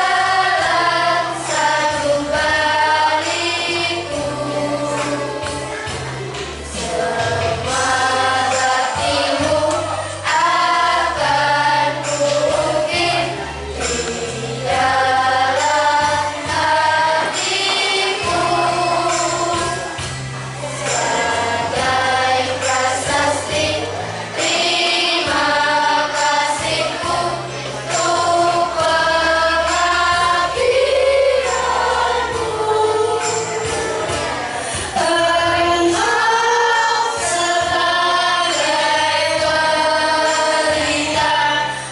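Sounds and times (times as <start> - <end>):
children's choir singing: 0.0 - 41.9.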